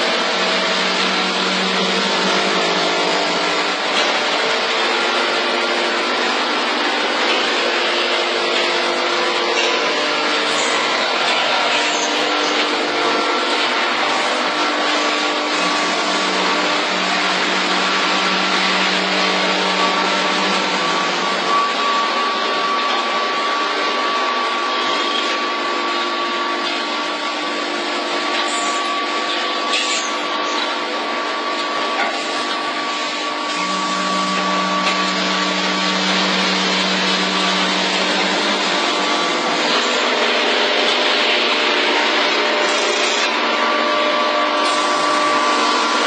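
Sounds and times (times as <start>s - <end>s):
bagging machine running: 0.0s - 46.0s
constant machine whine: 0.0s - 46.0s.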